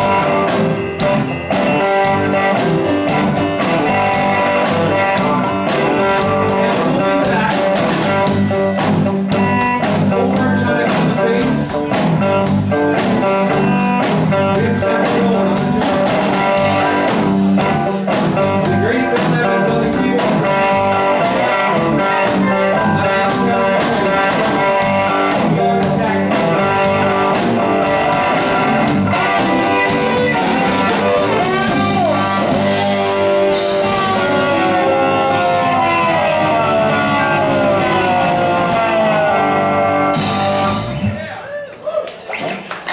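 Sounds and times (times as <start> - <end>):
electric guitar: 0.0 - 41.2
electric keyboard: 0.0 - 41.2
bass guitar: 0.0 - 42.4
drums: 0.0 - 42.9.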